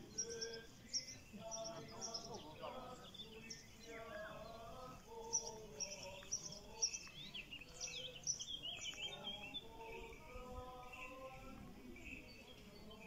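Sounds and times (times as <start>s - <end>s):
songbirds chirping and twittering: 0.0s - 13.0s.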